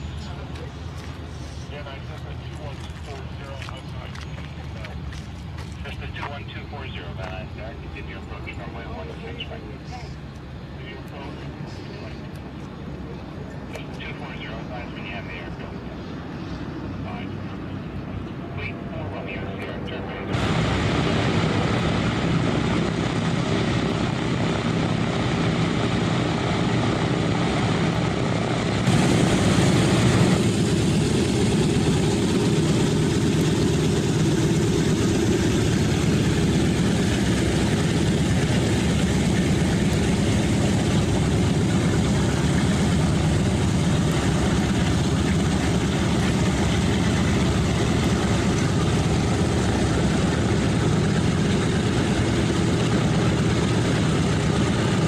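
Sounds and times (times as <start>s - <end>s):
propeller engine drone: 0.0s - 55.0s.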